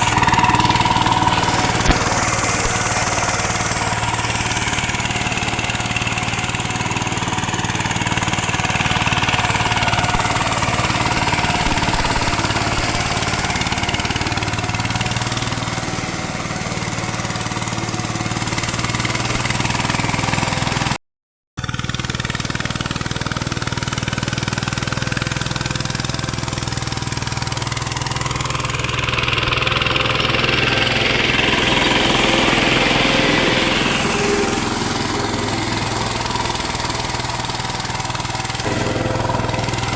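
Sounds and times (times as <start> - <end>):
power tiller engine running: 0.0 - 21.0, 21.6 - 39.9.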